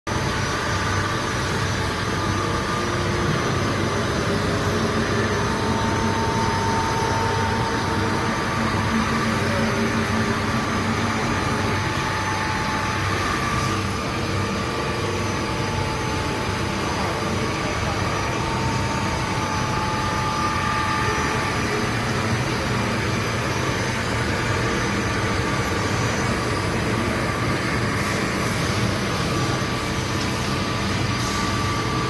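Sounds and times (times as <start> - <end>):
machine mechanical hum: 0.1 - 32.0
spindle whine: 0.3 - 32.0.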